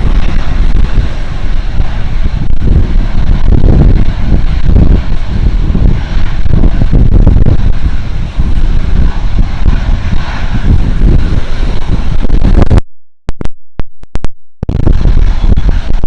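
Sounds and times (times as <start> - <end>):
airliner jet noise: 0.0 - 12.8, 14.6 - 16.0
wind buffeting microphone: 0.0 - 12.8, 14.6 - 16.0.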